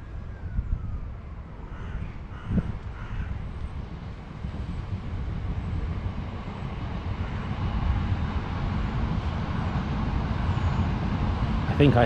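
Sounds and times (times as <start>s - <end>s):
passing train rumbling: 0.0s - 12.0s.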